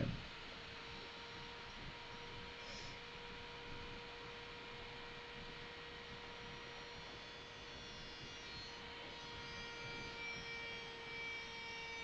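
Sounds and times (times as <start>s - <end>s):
router bit whining: 0.0s - 12.0s.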